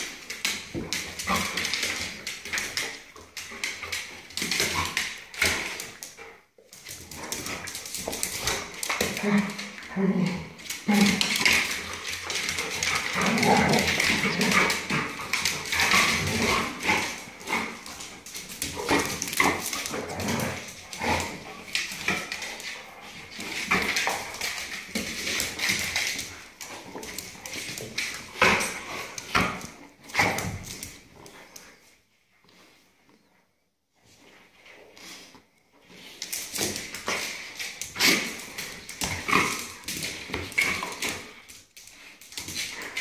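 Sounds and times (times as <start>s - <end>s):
dogs scuffling: 0.0s - 32.8s, 34.0s - 43.0s.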